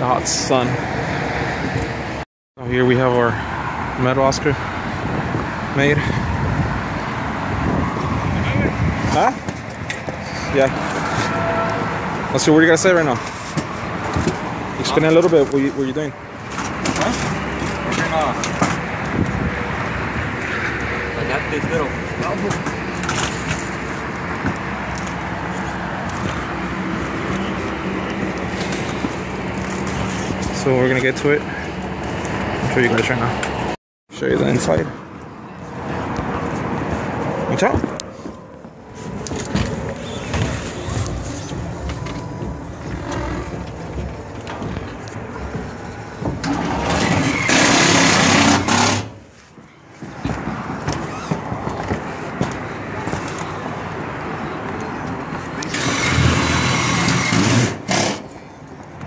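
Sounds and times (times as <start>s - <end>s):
freeway traffic noise: 0.0s - 59.0s.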